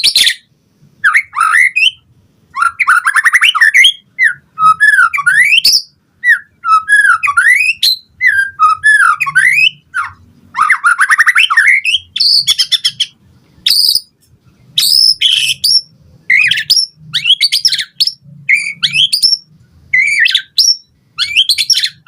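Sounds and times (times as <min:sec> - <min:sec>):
bird singing trills and whistles: 0:00.0 - 0:22.0.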